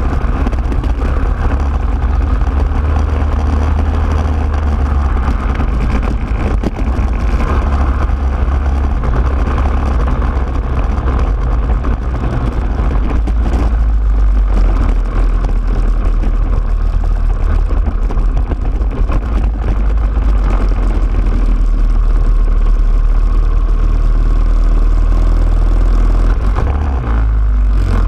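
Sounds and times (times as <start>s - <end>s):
kart engine running: 0.0s - 28.0s.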